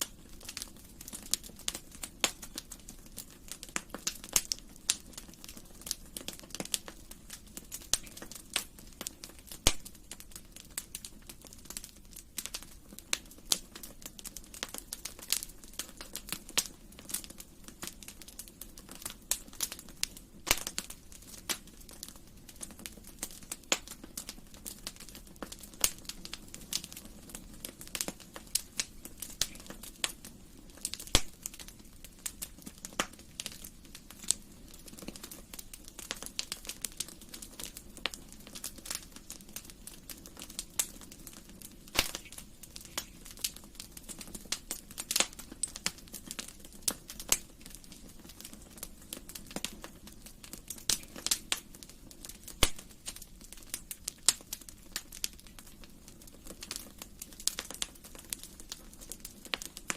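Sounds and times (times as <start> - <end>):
low steady fire hiss: 0.0 - 59.9
wood fire crackling and popping: 0.0 - 59.9.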